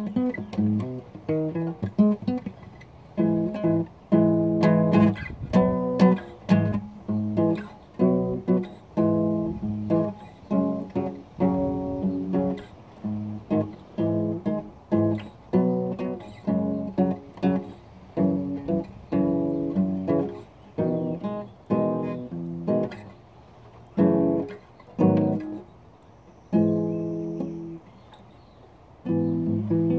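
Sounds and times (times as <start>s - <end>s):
acoustic guitar strumming chords: 0.0s - 23.2s, 23.8s - 25.7s, 26.5s - 27.8s, 29.0s - 29.9s.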